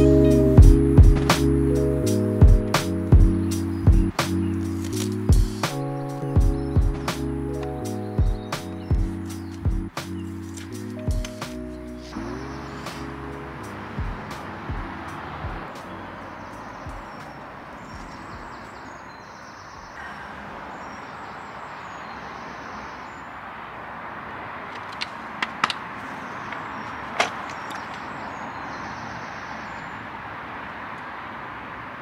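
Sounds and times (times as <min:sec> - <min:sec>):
low traffic rumble: 0:00.0 - 0:32.0.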